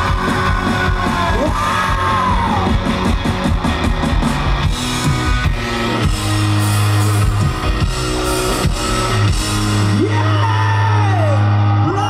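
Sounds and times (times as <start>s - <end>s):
electric guitar chords: 0.0s - 12.0s.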